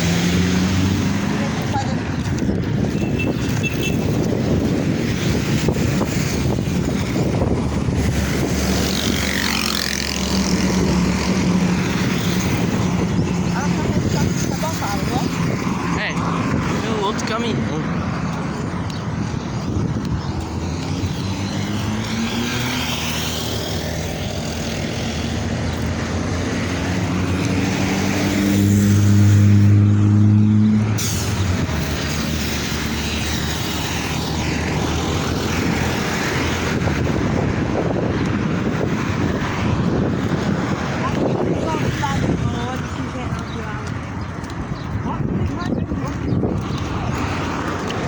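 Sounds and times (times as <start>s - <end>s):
road noise: 0.0s - 48.0s
truck diesel engine passing: 4.9s - 18.6s, 20.8s - 48.0s.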